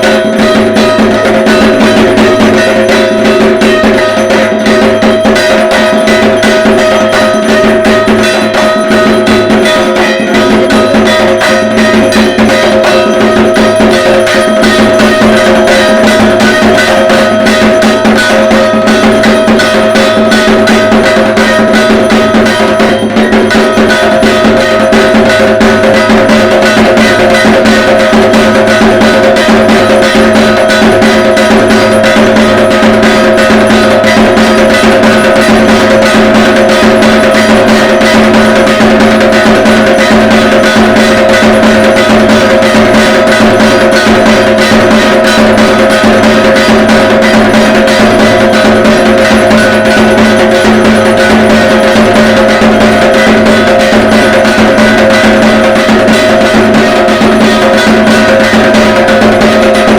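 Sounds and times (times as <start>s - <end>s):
barrel drums beaten fast: 0.0s - 59.9s
metallic ringing: 0.0s - 59.9s.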